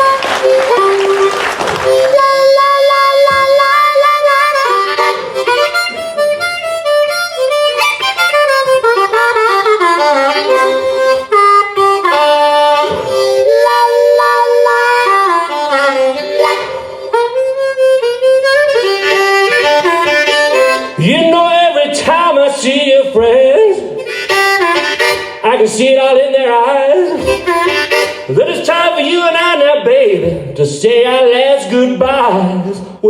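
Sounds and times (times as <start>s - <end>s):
blues harmonica solo: 0.0s - 29.9s.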